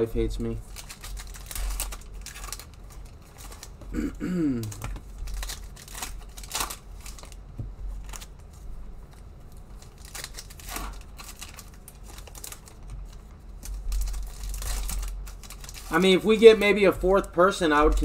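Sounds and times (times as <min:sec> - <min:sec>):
plastic wrappers crinkling and tearing: 0:00.6 - 0:03.9, 0:04.6 - 0:18.0.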